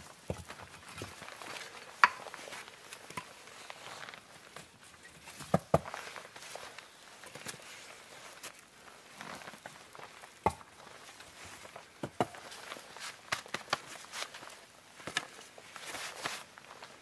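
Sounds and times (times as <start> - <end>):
clothing rustling: 0.6 - 17.0.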